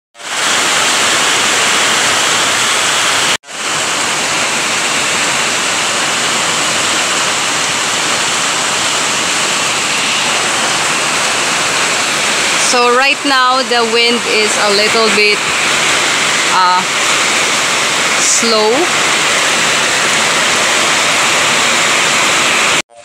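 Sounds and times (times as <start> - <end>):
heavy rain pouring: 0.2 - 22.8.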